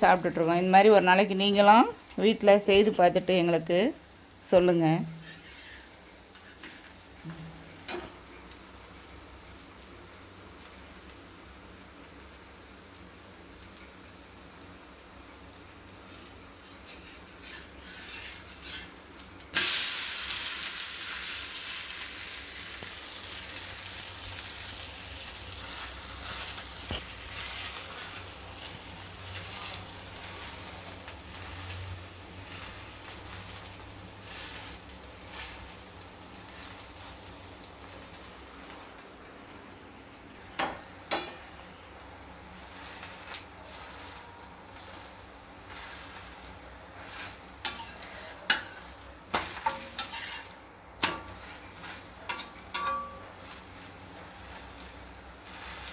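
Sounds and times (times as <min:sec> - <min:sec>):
dosa sizzling on hot griddle: 0:00.0 - 0:55.9.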